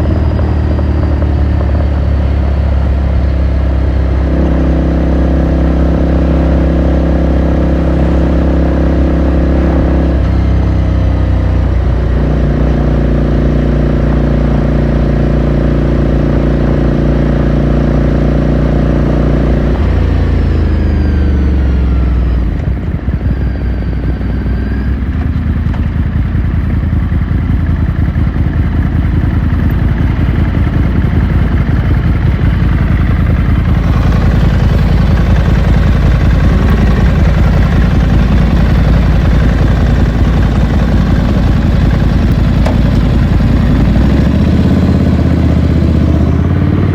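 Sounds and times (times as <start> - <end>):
motorcycle engine and exhaust: 0.0 - 46.9.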